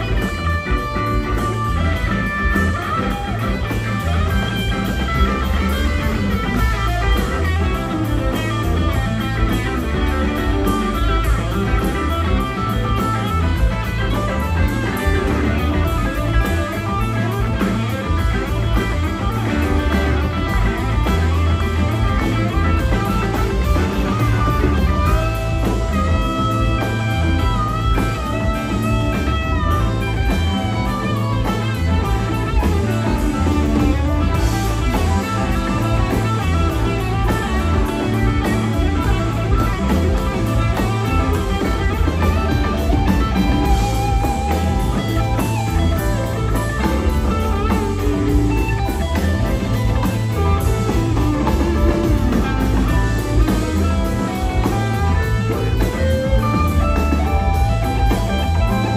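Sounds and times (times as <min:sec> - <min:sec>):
bass guitar: 0:00.0 - 0:58.9
drums: 0:00.0 - 0:58.9
electric guitar lead lines: 0:00.0 - 0:58.9.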